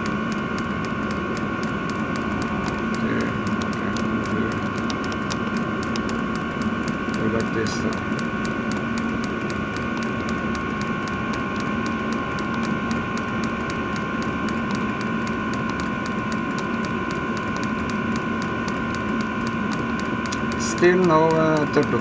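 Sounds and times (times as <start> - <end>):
fuel pump ticking: 0.0 - 22.0
heater fans whining and humming: 0.0 - 22.0.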